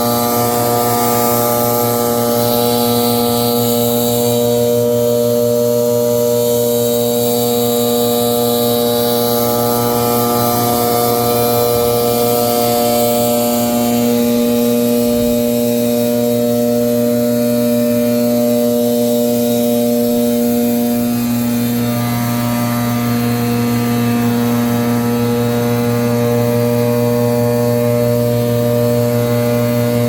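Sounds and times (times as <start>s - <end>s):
leaf blower running: 0.0s - 30.0s.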